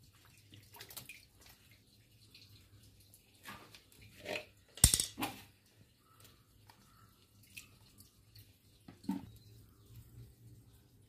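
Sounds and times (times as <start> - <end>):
water splashing in fish tank: 0.0 - 11.0.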